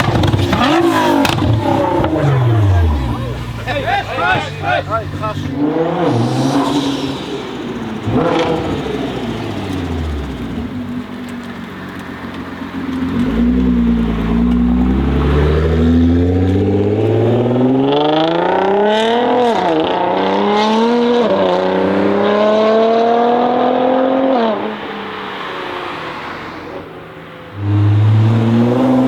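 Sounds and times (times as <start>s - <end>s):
car engine accelerating hard: 0.0s - 29.0s.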